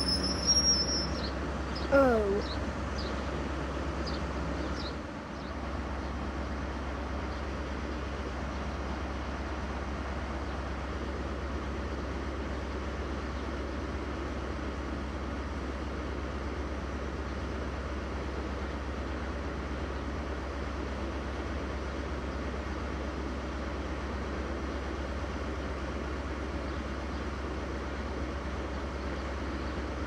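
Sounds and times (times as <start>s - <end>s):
train engine rumbling: 0.0s - 30.0s.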